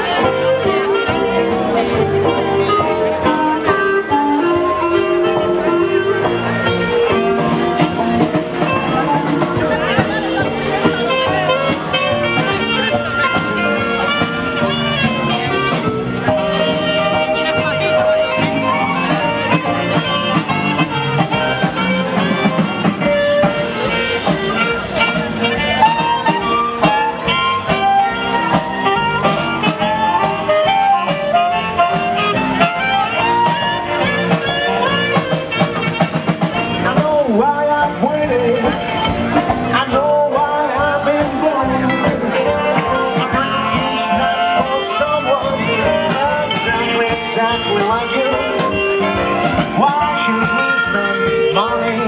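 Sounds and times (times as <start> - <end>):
sliding melodic lead line: 0.0 - 52.0
swing jazz band playing: 0.0 - 52.0.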